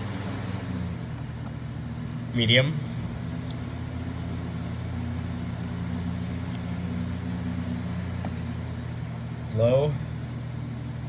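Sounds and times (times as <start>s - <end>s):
box fan motor hum and air: 0.0s - 11.0s.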